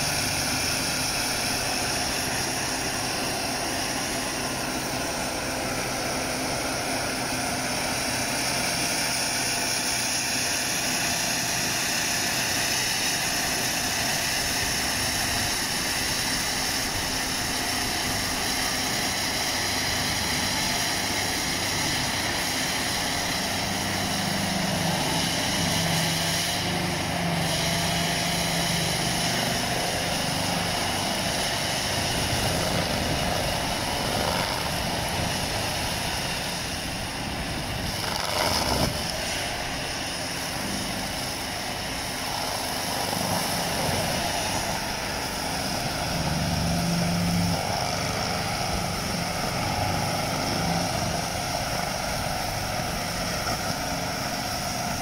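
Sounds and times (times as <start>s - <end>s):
mulcher rotor grinding: 0.0s - 55.0s
tractor diesel engine under load: 0.0s - 55.0s.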